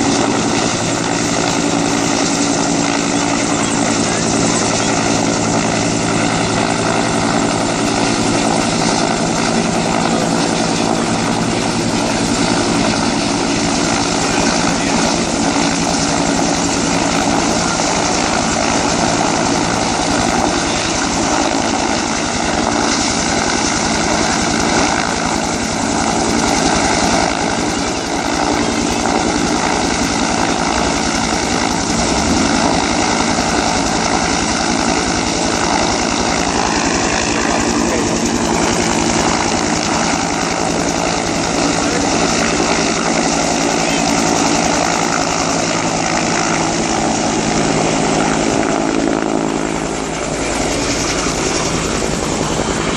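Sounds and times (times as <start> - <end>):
helicopter turbine and rotor: 0.0 - 52.9.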